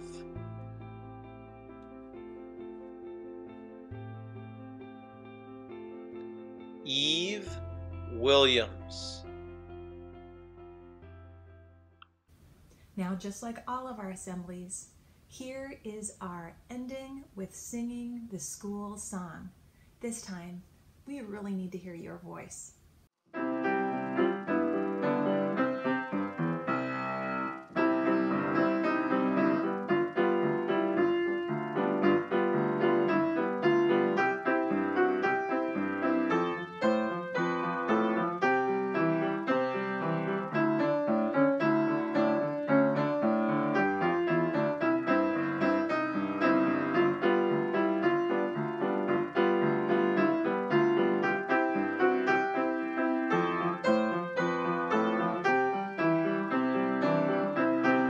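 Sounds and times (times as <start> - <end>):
piano playing: 0.0 - 12.2, 23.2 - 58.0.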